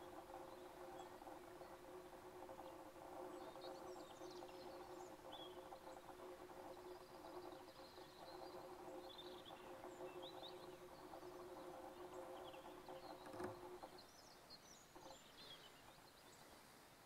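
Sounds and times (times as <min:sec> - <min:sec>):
steady low hum: 0:00.0 - 0:16.2
faint bird chirps: 0:00.0 - 0:16.7.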